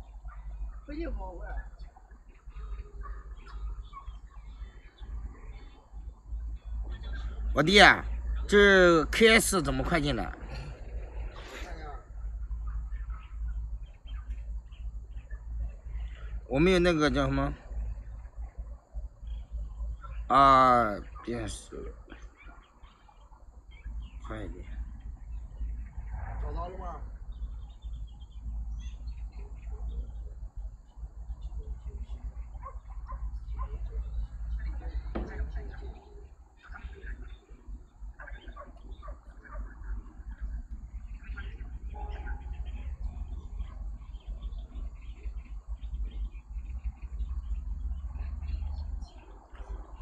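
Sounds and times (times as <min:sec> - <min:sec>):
birds chirping: 0:00.0 - 0:50.0
low outdoor rumble: 0:00.0 - 0:50.0.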